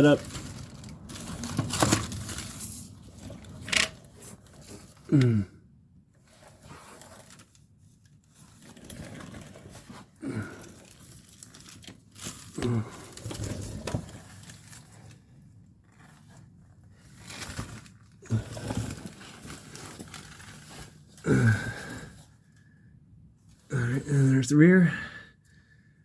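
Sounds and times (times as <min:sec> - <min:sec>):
rustling and crinkling from handling: 0:00.0 - 0:05.2, 0:06.1 - 0:22.6.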